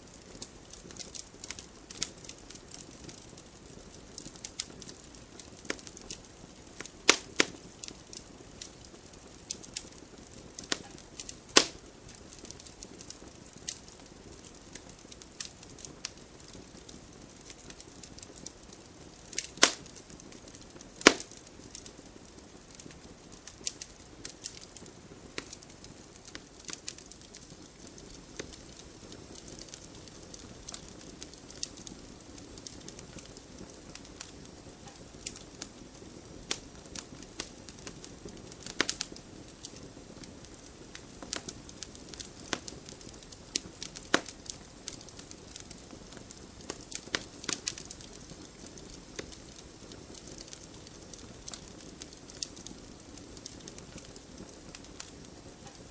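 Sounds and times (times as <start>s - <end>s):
burning logs popping: 0.0s - 55.9s
wood fire crackling: 0.0s - 55.9s.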